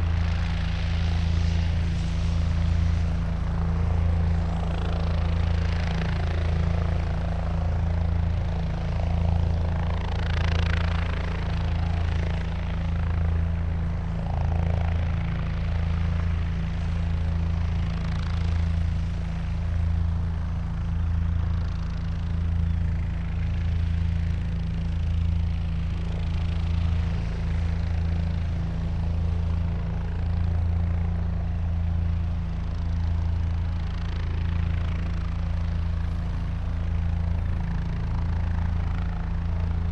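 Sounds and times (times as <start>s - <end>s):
helicopter rotor throbbing: 0.0s - 39.9s
helicopter turbine noise: 0.0s - 39.9s.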